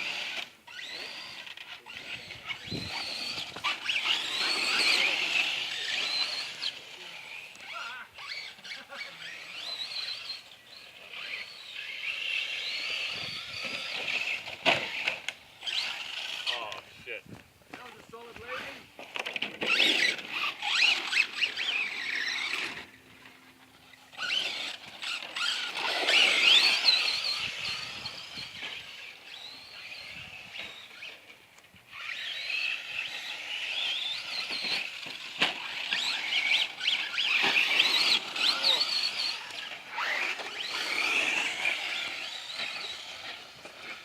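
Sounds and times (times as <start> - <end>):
rc truck motors whining: 0.0 - 44.0.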